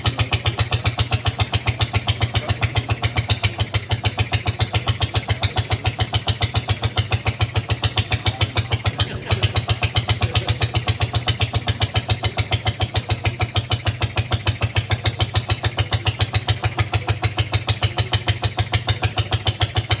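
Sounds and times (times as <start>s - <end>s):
boat motor running steadily: 0.0s - 20.0s.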